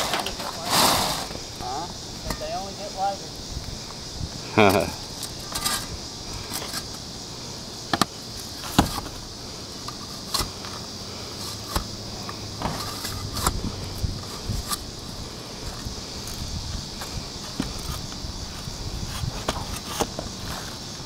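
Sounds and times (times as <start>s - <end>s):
high-pitched hiss: 0.0s - 21.0s.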